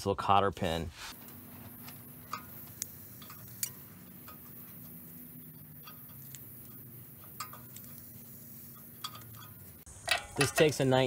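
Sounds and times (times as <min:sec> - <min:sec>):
hand tools clicking on metal: 0:01.8 - 0:11.0.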